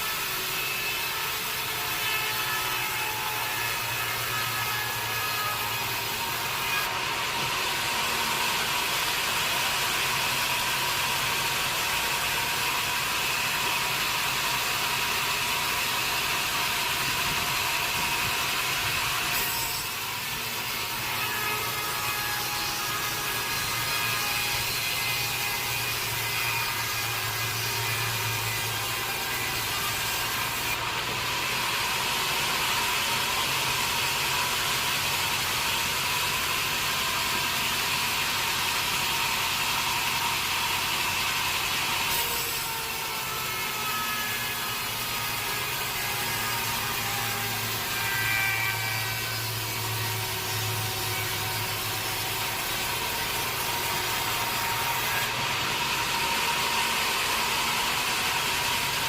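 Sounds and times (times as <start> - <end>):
saw blade cutting log: 0.0 - 59.0.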